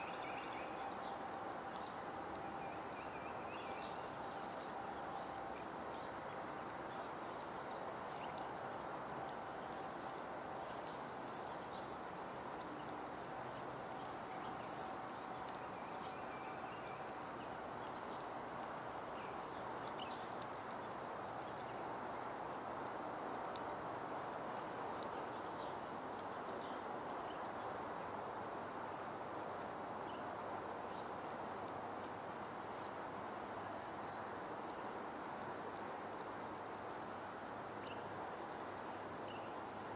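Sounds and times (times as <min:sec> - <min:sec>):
soft outdoor hiss: 0:00.0 - 0:39.9.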